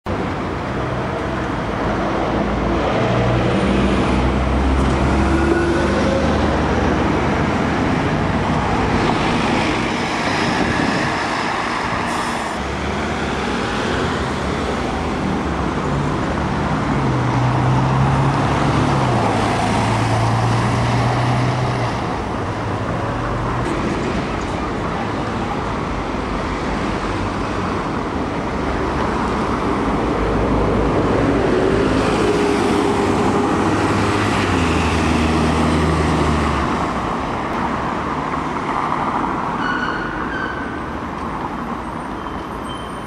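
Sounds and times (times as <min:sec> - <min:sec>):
tyres and traffic noise: 0:00.0 - 0:43.0
buses driving past: 0:00.1 - 0:43.0.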